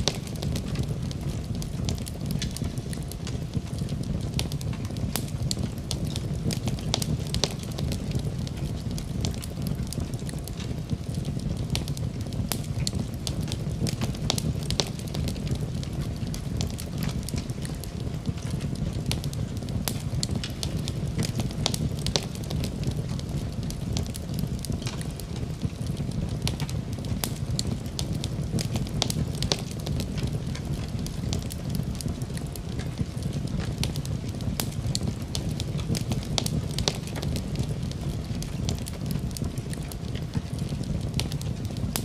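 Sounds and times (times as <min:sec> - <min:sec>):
low rumble of flames: 0:00.0 - 0:42.0
wood fire crackling and popping: 0:00.0 - 0:42.0.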